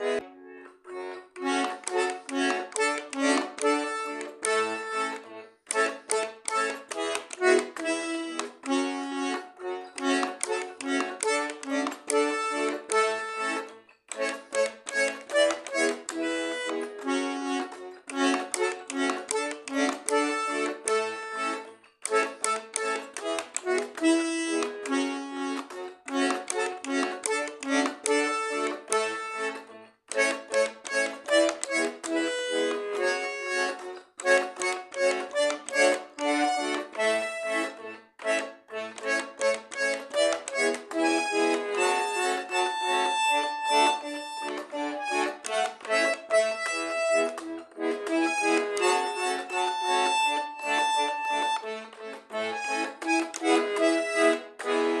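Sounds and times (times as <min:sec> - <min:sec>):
button accordion melody: 0:00.0 - 0:55.0.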